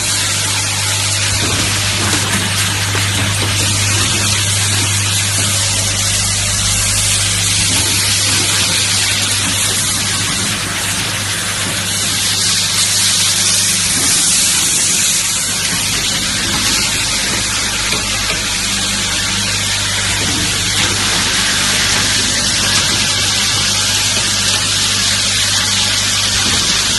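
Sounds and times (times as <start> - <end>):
loud constant hiss: 0.0 - 26.9
machine humming: 0.0 - 26.9.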